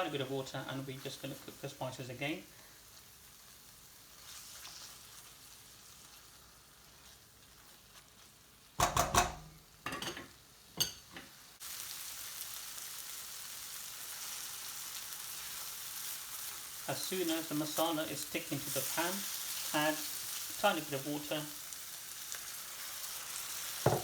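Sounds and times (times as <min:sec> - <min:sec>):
spices sizzling in a pan: 0:00.0 - 0:24.0.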